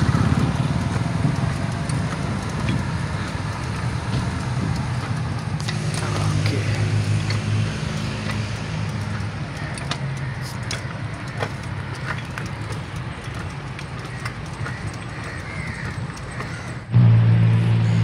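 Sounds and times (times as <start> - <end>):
light clicks and rattles: 0.0 - 16.9
bicycle tyres rumbling: 0.0 - 18.0.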